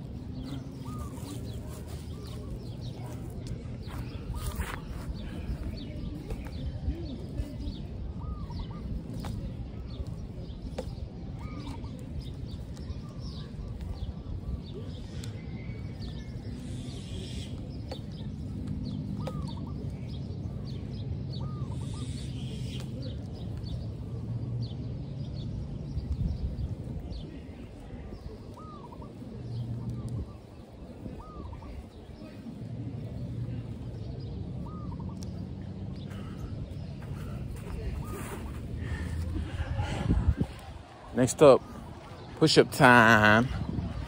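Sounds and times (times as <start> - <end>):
steady low rumble: 0.0 - 22.2, 22.8 - 44.0
birds chirping: 0.0 - 44.0.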